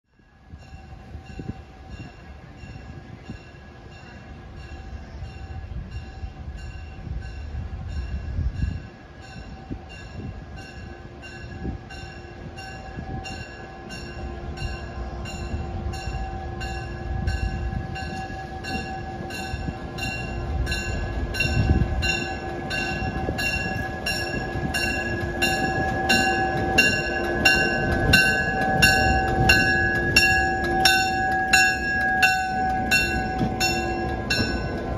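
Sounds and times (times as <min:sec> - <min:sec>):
diesel locomotive engine rumble: 0:00.1 - 0:34.9
locomotive bell ringing: 0:00.3 - 0:34.9.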